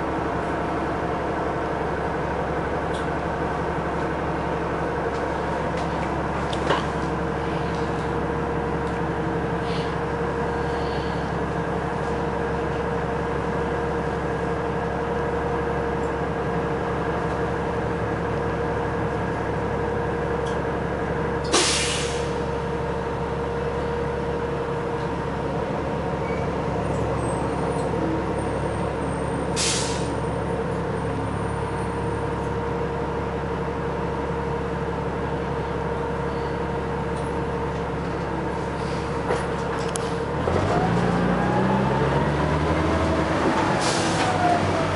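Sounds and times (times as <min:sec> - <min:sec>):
bus engine and drivetrain hum: 0:00.0 - 0:44.9.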